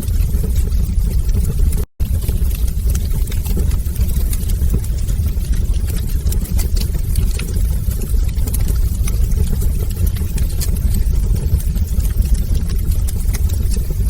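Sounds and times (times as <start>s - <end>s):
flames rumbling: 0.0s - 14.0s
fire crackling and popping: 0.1s - 14.0s.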